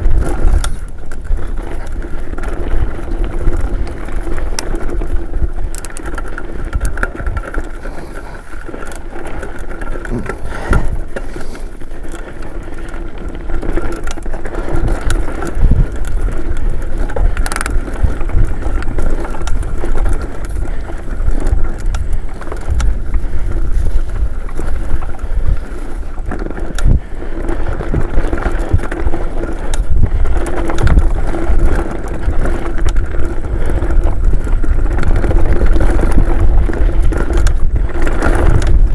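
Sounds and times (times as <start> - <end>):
bike clattering over bumps: 0.0 - 38.9
bike tyres rolling over dirt: 0.0 - 38.9
wind rumbling on microphone: 0.0 - 38.9.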